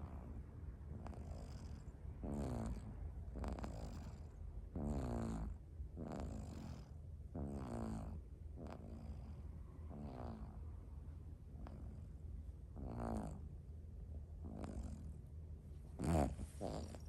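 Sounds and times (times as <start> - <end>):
cat snoring: 0.0 - 10.6, 11.5 - 12.1, 12.8 - 13.5, 14.4 - 15.2, 16.0 - 17.0.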